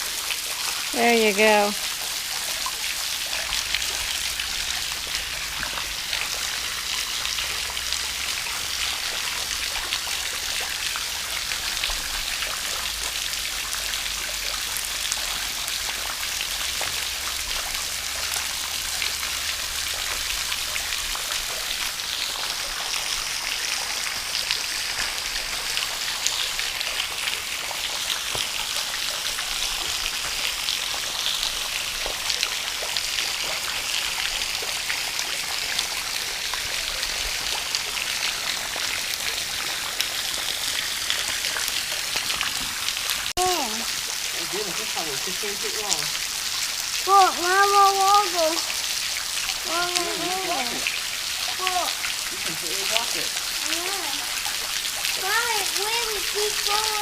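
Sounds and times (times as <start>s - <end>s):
trickling stream: 0.0s - 57.0s.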